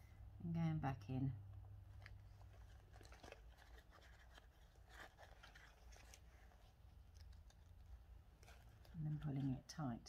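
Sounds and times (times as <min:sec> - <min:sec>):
fabric and paper rustling: 0:01.5 - 0:10.0.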